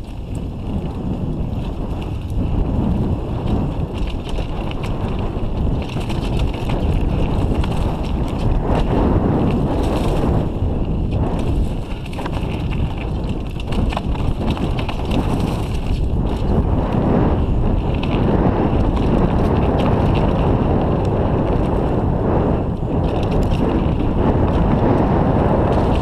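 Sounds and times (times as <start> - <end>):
bike clicks and rattles: 0.0 - 26.0
bike tyres rolling on dirt: 0.0 - 26.0
wind buffeting microphone: 0.0 - 26.0.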